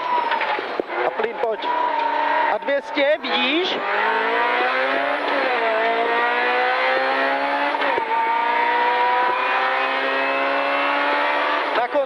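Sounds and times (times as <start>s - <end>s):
rally car engine accelerating: 0.1s - 12.0s.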